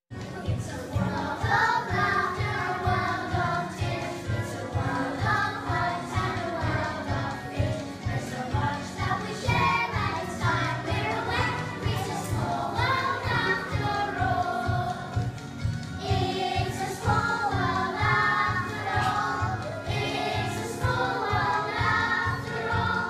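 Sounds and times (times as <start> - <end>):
backing track with steady beat: 0.1 - 23.0
children's choir singing: 0.2 - 23.0.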